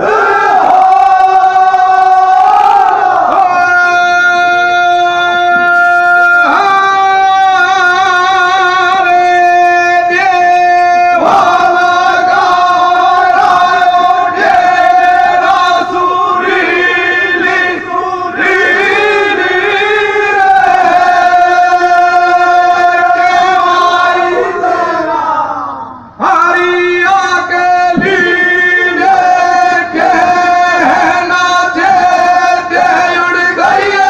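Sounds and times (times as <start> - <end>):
man singing into a microphone: 0.6 - 34.0.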